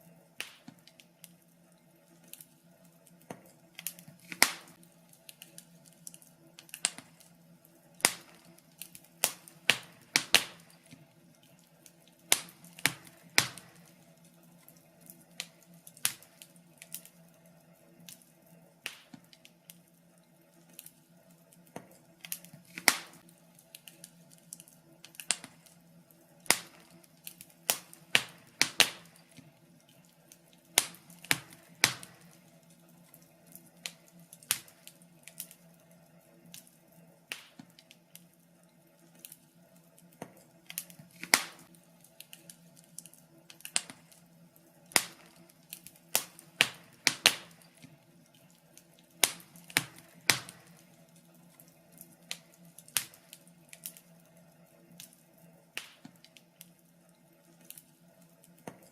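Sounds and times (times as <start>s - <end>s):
faint steady hum: 0.0s - 58.9s
fire crackling in a fireplace: 0.0s - 58.9s.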